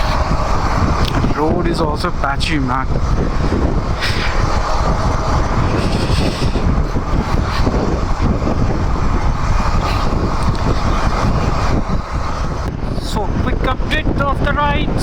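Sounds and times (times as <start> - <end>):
motorcycle engine running: 0.0 - 13.3
wind rush over microphone: 0.0 - 15.0.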